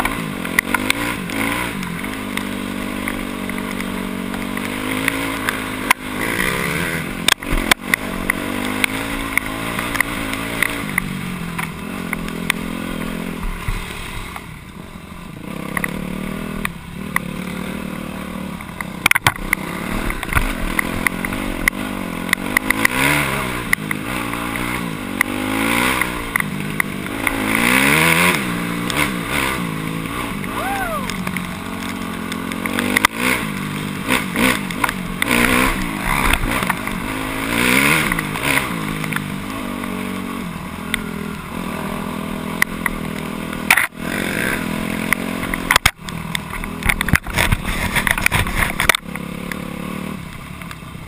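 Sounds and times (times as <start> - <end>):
dirt bike engine revving: 0.0 - 14.4, 15.3 - 50.3.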